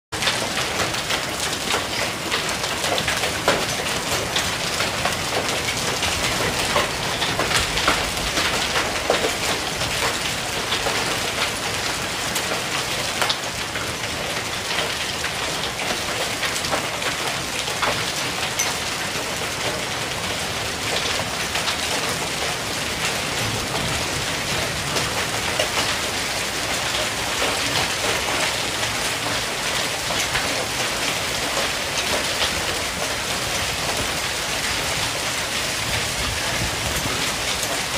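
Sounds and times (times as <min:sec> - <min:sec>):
hail pelting water and patio: 0:00.1 - 0:37.9.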